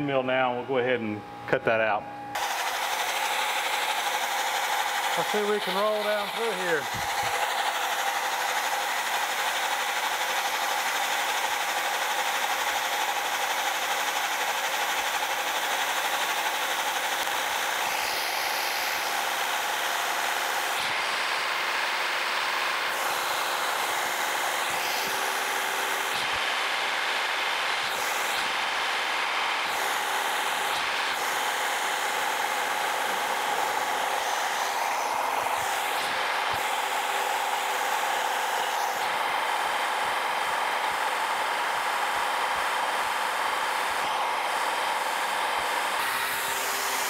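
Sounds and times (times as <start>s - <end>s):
milling machine whining: 1.2s - 47.0s.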